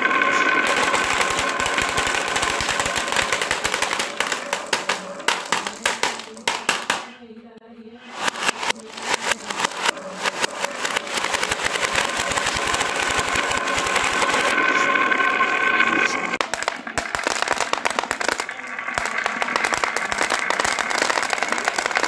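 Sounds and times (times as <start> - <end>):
marbles rolling on wooden grooves: 0.0 - 7.1, 8.1 - 22.0.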